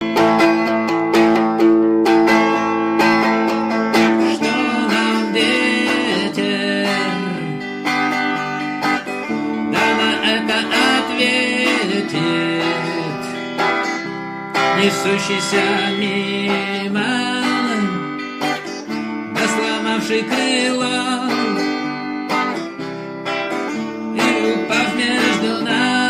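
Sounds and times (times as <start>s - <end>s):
plucked and strummed guitar: 0.0s - 26.0s.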